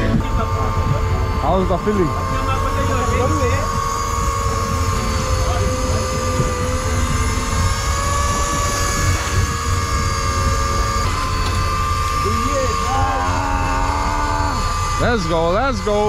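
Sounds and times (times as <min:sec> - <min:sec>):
wind buffeting microphone: 0:00.0 - 0:15.5
low drone: 0:00.0 - 0:16.0
motor whine: 0:00.0 - 0:16.0.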